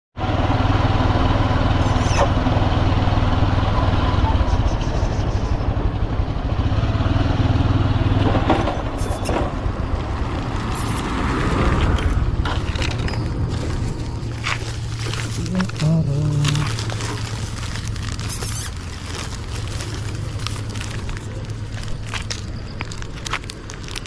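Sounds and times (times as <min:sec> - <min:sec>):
vehicle engine humming: 0:00.2 - 0:24.0.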